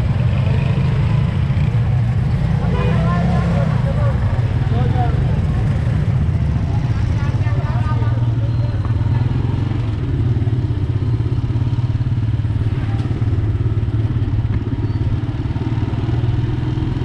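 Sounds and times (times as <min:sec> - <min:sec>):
motorcycle engine running: 0:00.0 - 0:17.0
street noise: 0:00.0 - 0:17.0.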